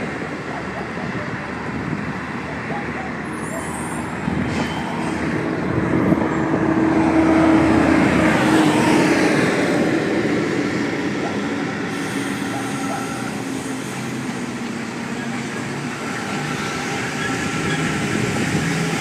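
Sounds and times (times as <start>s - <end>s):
train humming and whining: 0.0s - 19.0s.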